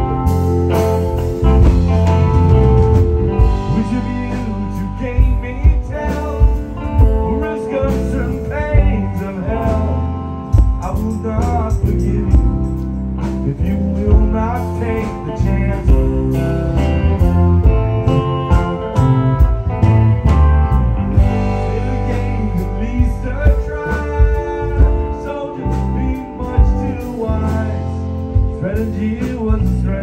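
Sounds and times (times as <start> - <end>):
bass guitar: 0.0 - 30.0
drum kit: 0.0 - 30.0
electric guitar: 0.0 - 30.0.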